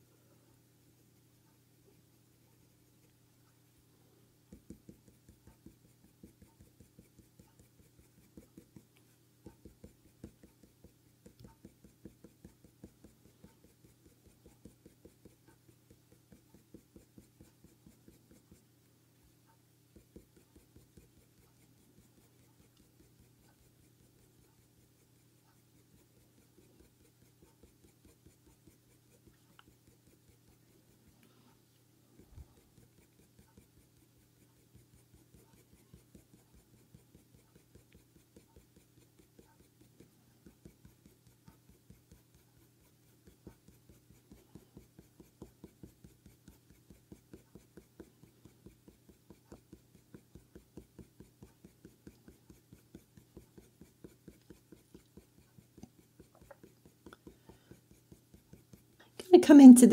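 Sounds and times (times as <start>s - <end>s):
pencil scratching on paper: 1.2s - 3.5s, 4.4s - 59.9s.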